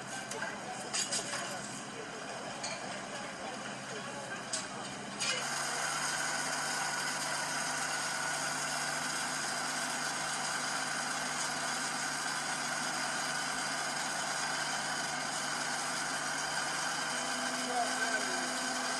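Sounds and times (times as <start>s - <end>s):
engine idling: 3.2s - 18.9s.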